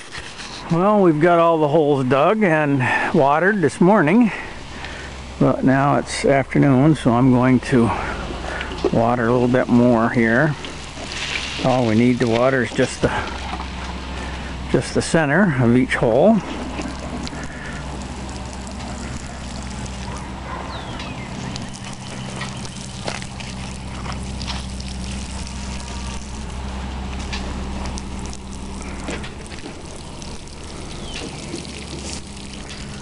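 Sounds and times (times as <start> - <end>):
low hum: 0.0 - 33.0
water pouring onto soil: 4.1 - 33.0.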